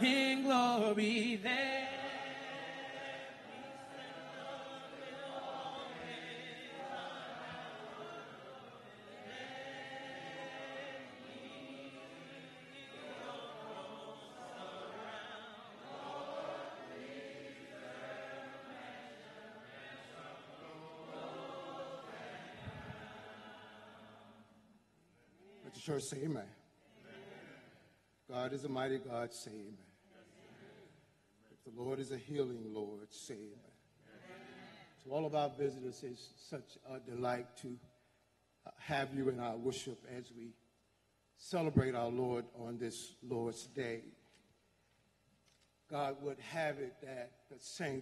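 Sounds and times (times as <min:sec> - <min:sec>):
congregation singing a hymn: 0:00.0 - 0:37.8, 0:41.4 - 0:44.3, 0:45.9 - 0:48.0.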